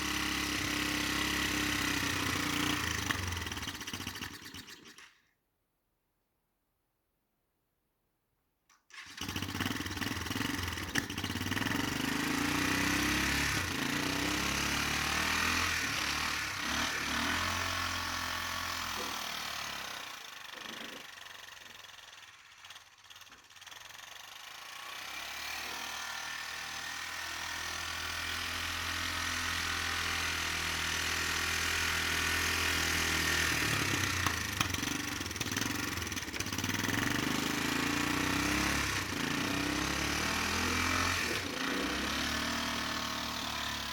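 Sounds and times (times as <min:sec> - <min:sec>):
atv engine pushing snow: 0:00.0 - 0:05.1, 0:08.9 - 0:43.9.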